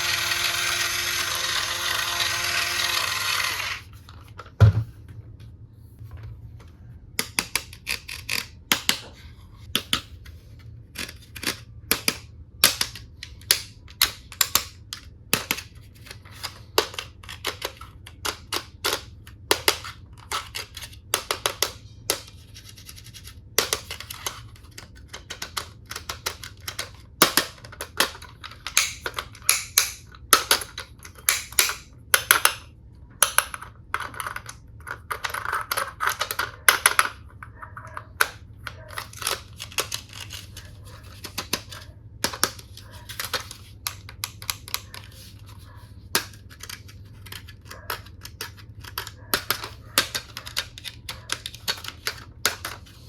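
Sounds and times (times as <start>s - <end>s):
plastic toy pieces clicking: 0.0s - 3.8s, 7.2s - 9.0s, 10.9s - 37.3s, 38.2s - 45.3s, 46.1s - 53.0s.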